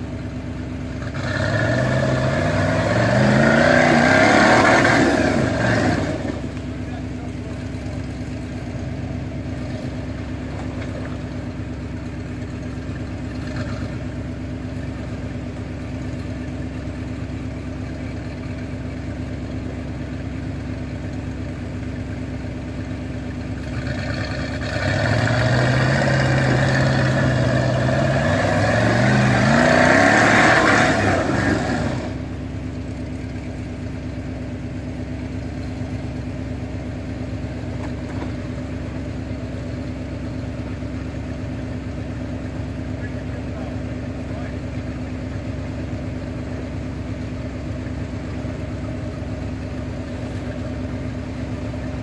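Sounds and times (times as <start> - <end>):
buggy engine revving: 0.0 - 52.0.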